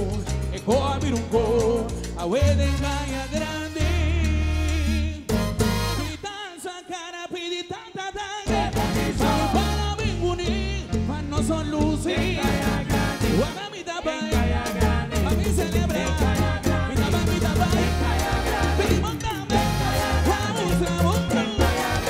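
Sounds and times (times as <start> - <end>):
live band with congas and drums: 0.0 - 6.2, 8.5 - 22.0
man singing: 0.0 - 22.0.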